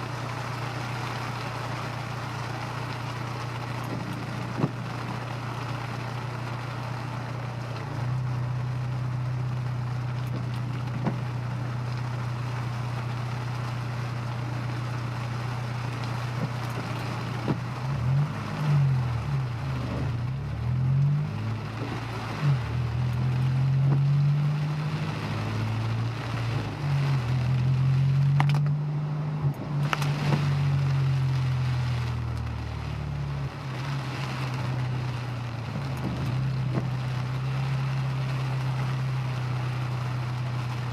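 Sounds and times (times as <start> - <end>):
car engine accelerating: 0.0 - 40.9
road noise hiss: 0.0 - 40.9.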